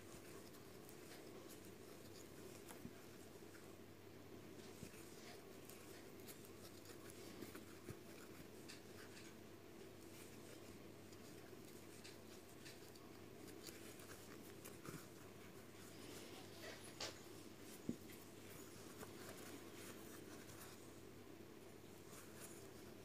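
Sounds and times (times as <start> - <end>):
crochet hook scratching yarn: 0.0 - 3.7, 4.6 - 9.4, 10.0 - 16.8, 17.7 - 20.9, 22.0 - 23.0.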